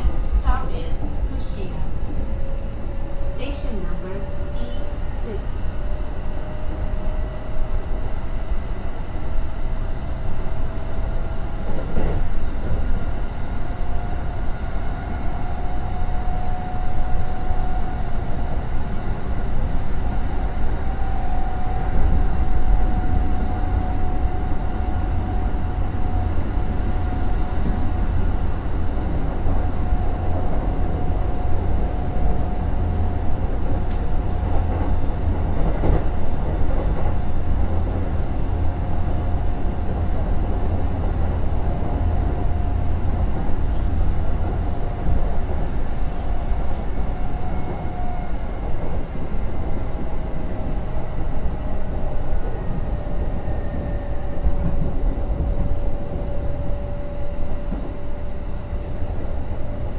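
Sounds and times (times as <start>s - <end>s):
train drive whine: 0.0s - 59.9s
train wheels rumbling on rails: 0.0s - 59.9s.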